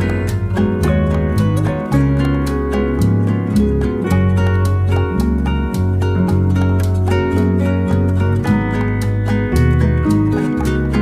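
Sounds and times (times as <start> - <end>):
held bass line: 0.0 - 11.0
plucked guitar music: 0.0 - 11.0.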